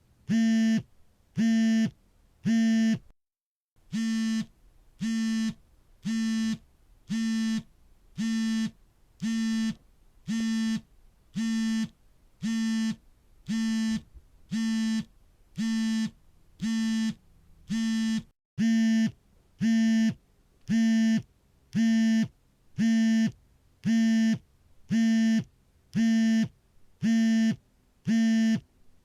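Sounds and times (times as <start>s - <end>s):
phone vibration buzzing: 3.9s - 10.8s, 11.4s - 21.2s, 21.8s - 28.6s.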